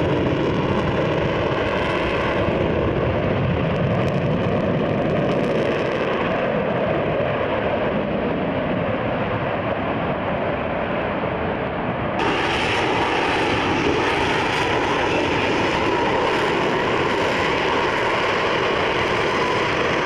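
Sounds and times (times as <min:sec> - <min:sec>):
jet engine running loud: 0:00.0 - 0:20.0.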